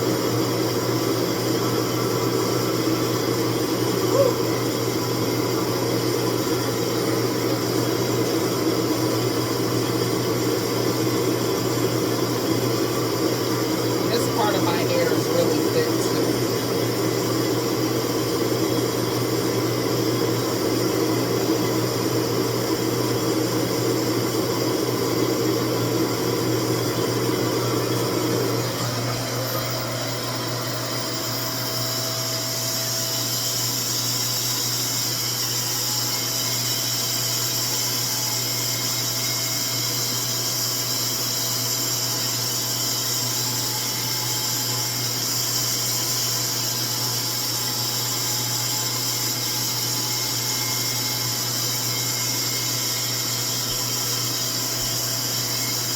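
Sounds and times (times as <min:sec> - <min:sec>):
hair dryer whirring: 0:00.0 - 0:55.9.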